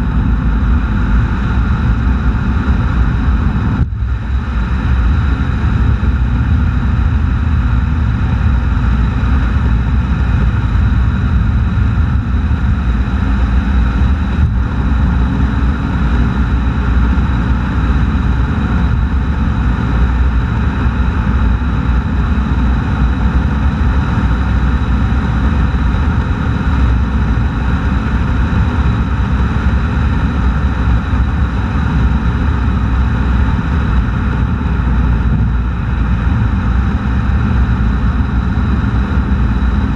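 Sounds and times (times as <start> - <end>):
tyre road noise on asphalt: 0.0 - 39.9
wind rumble: 0.0 - 39.9.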